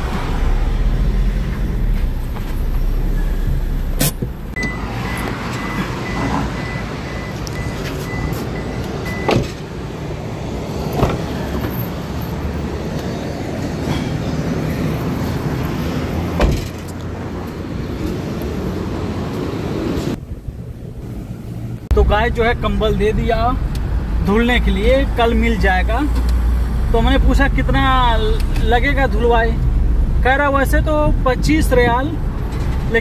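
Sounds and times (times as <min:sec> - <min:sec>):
street and traffic noise: 0:00.0 - 0:33.0.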